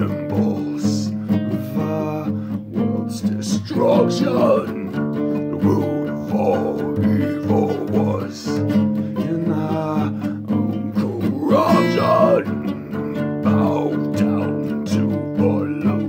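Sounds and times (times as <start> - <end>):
acoustic guitar strumming: 0.0 - 16.0
man singing: 0.0 - 16.0.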